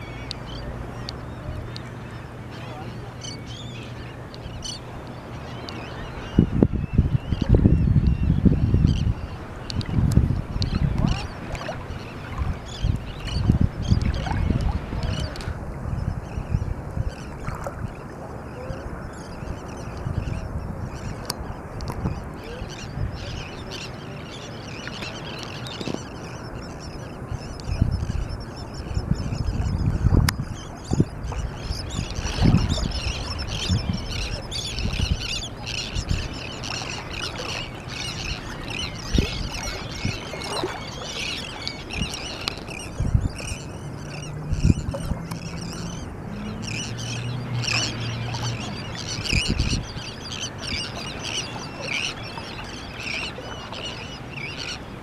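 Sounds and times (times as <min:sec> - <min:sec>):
terns and gulls calling: 0:00.0 - 0:55.0.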